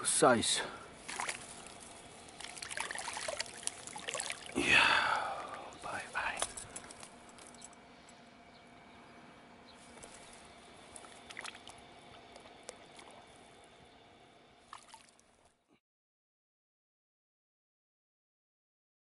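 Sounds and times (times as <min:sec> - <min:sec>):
faint steady hum: 0:00.0 - 0:15.8.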